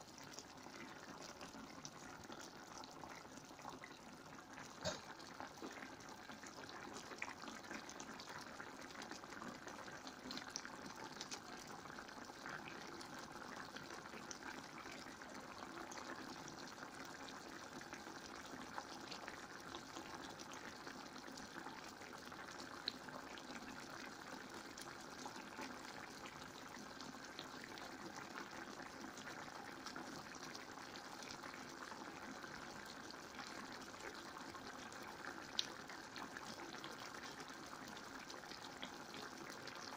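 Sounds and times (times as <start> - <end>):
curry simmering with bubbling: 0.0 - 39.9.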